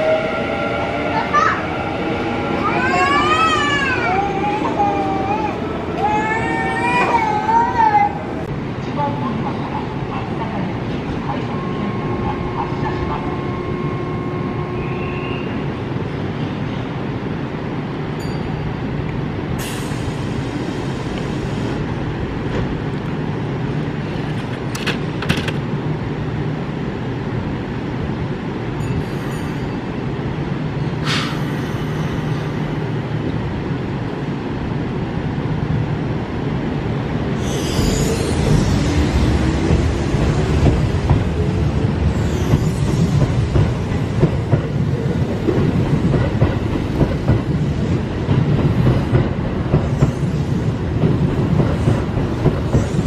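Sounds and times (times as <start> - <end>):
electric train humming: 0.0 - 23.8, 24.7 - 53.0.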